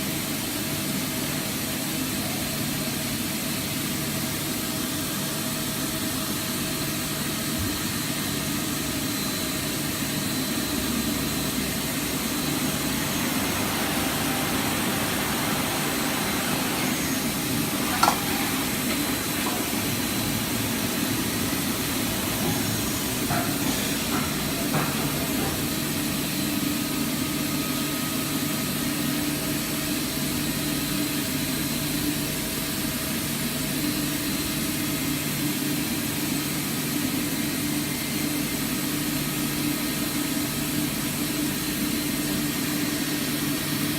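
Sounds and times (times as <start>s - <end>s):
machine hum with high whine: 0.0s - 43.9s.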